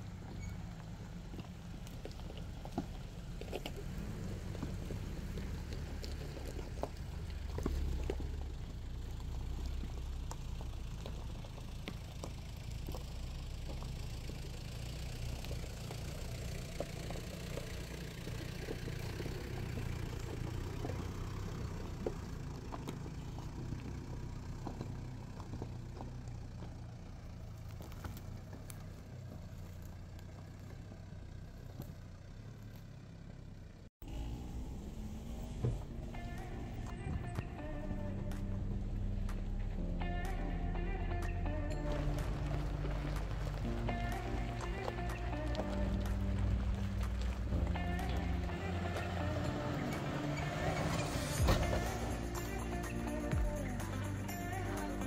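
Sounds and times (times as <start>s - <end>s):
loose stones clicking under tyres: 0.0s - 33.9s, 35.4s - 55.0s
off-road vehicle engines running low: 0.0s - 55.0s.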